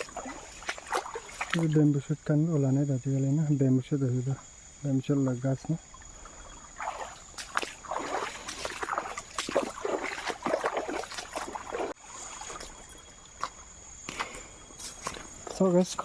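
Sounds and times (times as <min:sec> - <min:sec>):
water sloshing and splashing: 0:00.0 - 0:02.0, 0:04.1 - 0:16.0
crickets chirping: 0:00.0 - 0:16.0.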